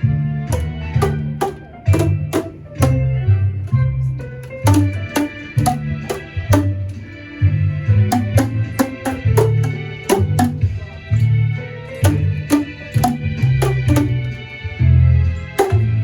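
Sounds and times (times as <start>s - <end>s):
music with steady drum beat: 0.0s - 16.0s.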